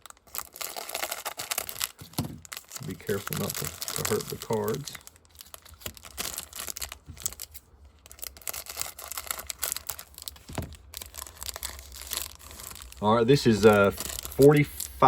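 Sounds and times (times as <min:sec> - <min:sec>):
wrapper tearing and crinkling: 0:00.0 - 0:15.0.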